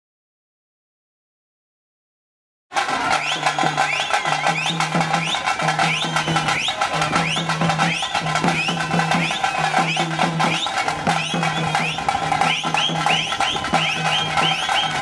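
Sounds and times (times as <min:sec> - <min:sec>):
fast drumming: 0:02.7 - 0:15.0
shrill rising whistles: 0:03.0 - 0:15.0.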